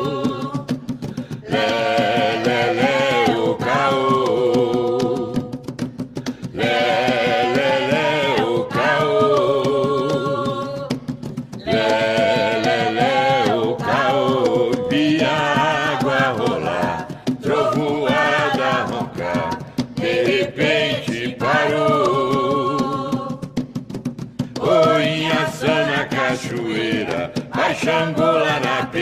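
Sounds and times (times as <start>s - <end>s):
hand drums: 0.0s - 29.0s.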